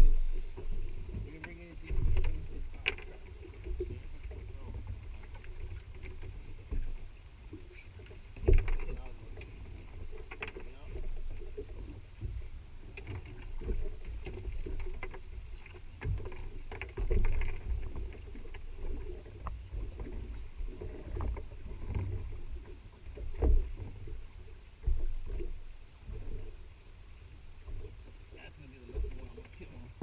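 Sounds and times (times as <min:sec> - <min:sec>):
boat low rumble: 0:00.0 - 0:30.0.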